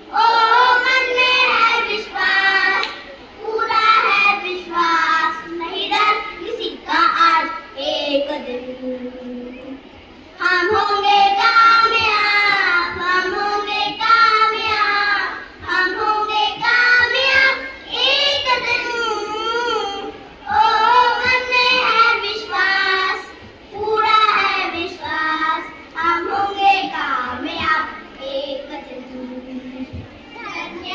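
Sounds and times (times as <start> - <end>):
children singing together: 0.0 - 30.9.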